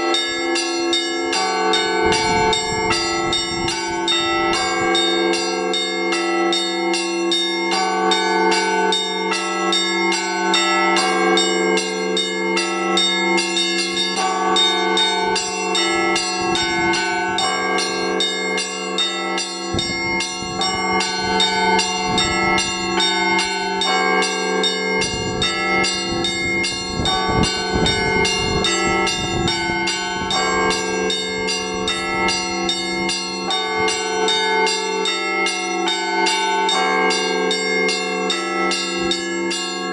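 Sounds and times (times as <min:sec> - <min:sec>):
church bells pealing: 0:00.0 - 0:39.9
deep bell tolling: 0:00.0 - 0:39.9.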